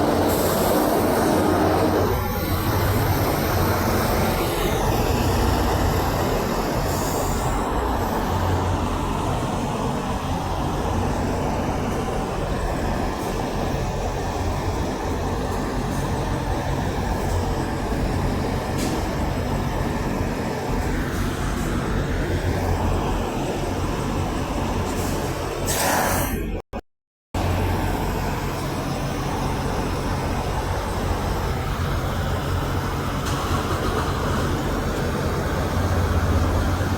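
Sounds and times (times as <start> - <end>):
heavy road traffic rumble: 0.0 - 25.7, 27.4 - 36.9.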